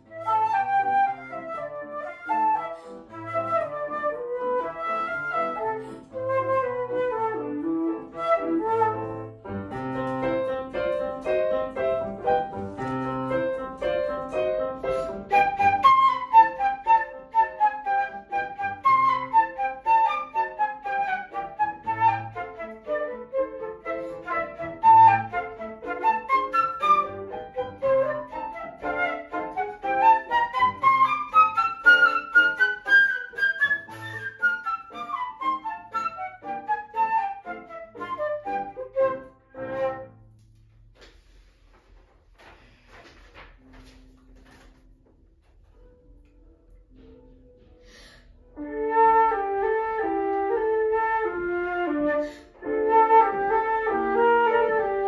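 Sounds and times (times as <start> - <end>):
flute playing: 0.0 - 40.4, 48.5 - 55.0
piano chords: 0.0 - 41.0, 43.5 - 55.0.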